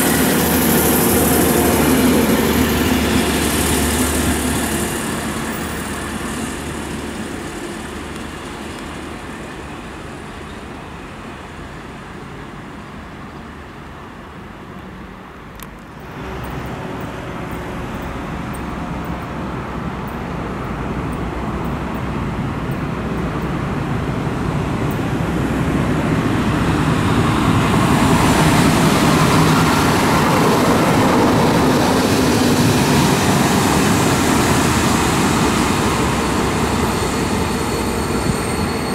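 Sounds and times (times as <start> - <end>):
diesel locomotive engine: 0.0 - 38.9
diesel railcar pulling off: 0.0 - 38.9.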